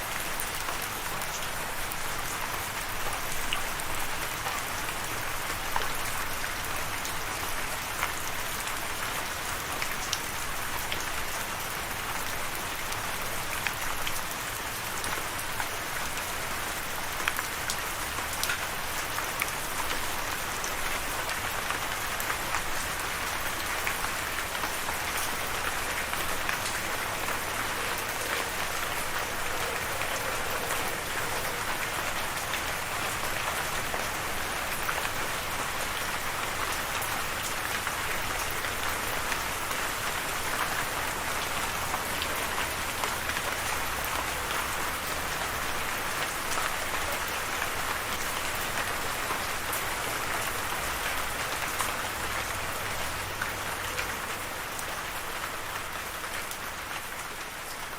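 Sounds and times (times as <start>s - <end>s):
steady rain patter: 0.0s - 57.9s.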